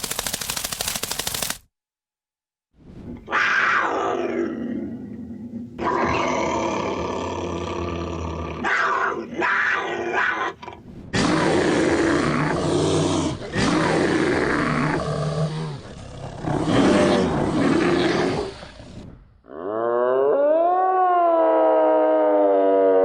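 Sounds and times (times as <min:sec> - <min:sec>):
wild animal roaring: 0:03.2 - 0:23.0.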